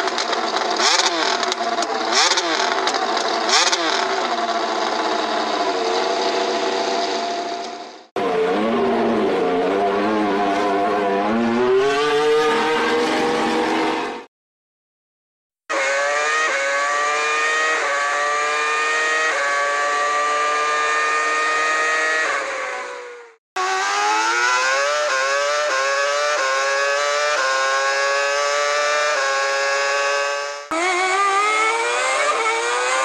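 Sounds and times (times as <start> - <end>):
racing car engine revving: 0.0 - 14.3, 15.7 - 33.0.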